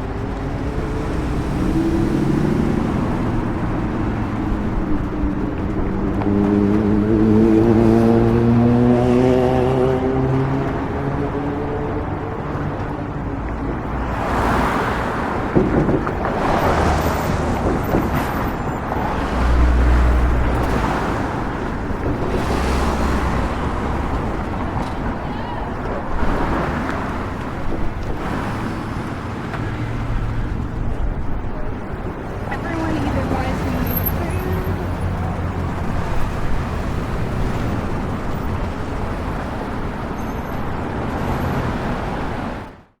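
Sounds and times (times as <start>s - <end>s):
road noise: 0.0s - 43.0s
vehicle engines passing: 0.0s - 43.0s.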